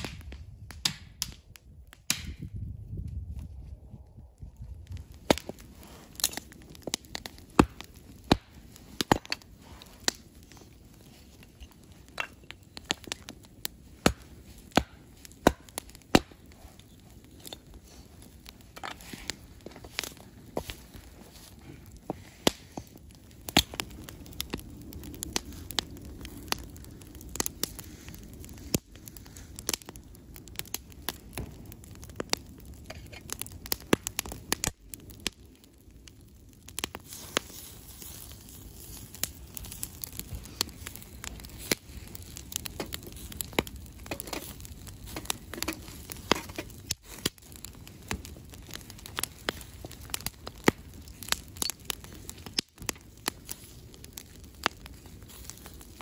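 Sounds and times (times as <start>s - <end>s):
campfire crackling and popping: 0.0s - 56.0s
hiss of burning: 4.8s - 56.0s.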